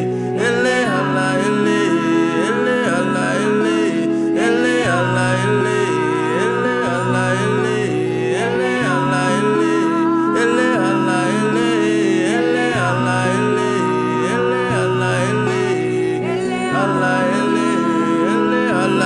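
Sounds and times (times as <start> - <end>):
sustained pad chords: 0.0 - 19.0
wordless sliding melody: 0.0 - 19.0.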